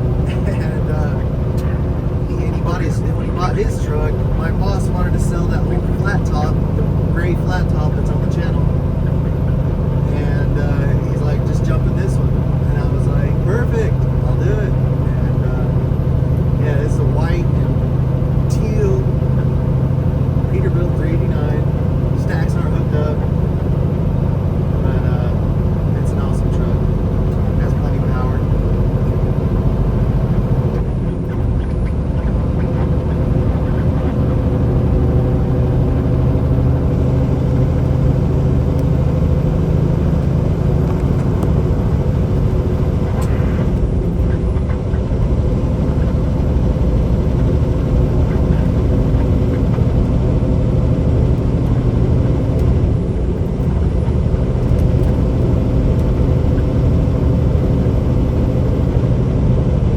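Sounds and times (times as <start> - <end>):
road noise inside cab: 0.0 - 59.9
truck diesel engine drone: 0.0 - 59.9.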